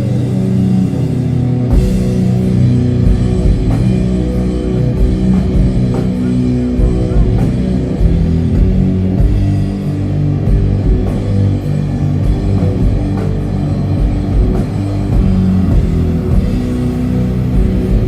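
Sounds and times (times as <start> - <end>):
drums and cymbal hits: 0.0 - 18.0
heavy guitars and bass: 0.0 - 18.0.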